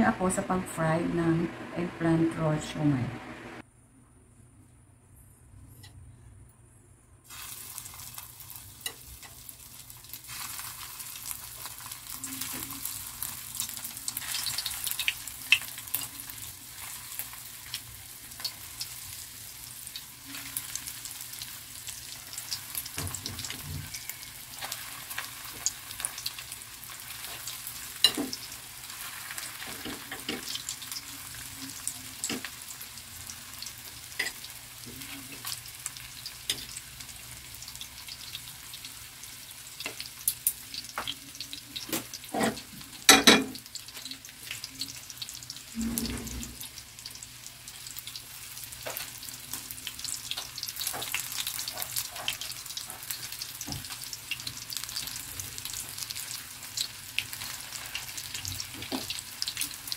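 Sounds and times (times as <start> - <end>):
food deep-frying in oil: 7.3 - 59.9.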